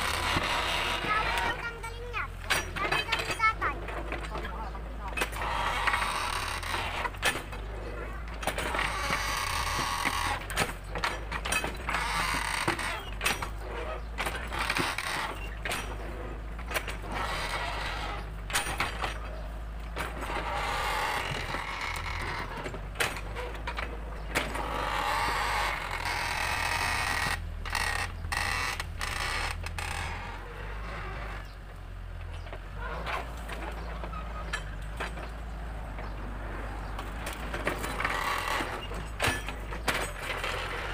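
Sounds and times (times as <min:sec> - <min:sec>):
excavator bucket clanking: 0:00.0 - 0:40.9
excavator diesel engine running: 0:00.0 - 0:40.9.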